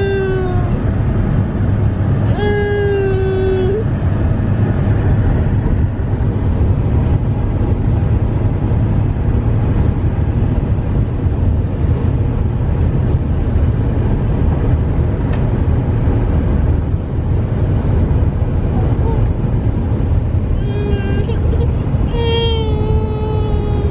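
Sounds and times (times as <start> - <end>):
car road and engine rumble: 0.0 - 23.9.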